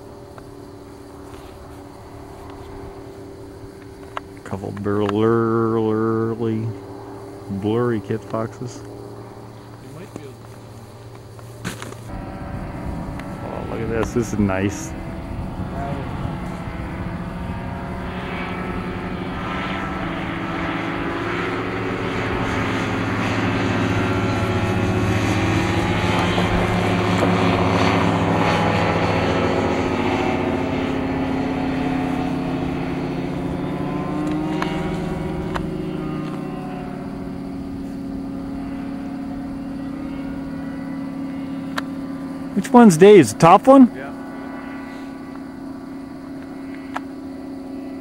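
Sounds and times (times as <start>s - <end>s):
light airplanes flying past: 0.0s - 48.0s.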